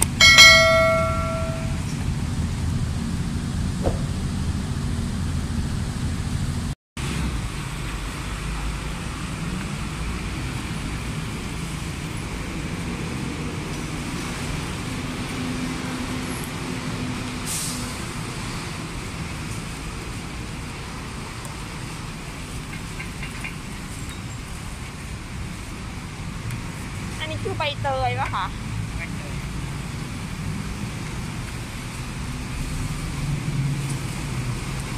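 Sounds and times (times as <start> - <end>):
road traffic rumble: 0.0 - 34.9.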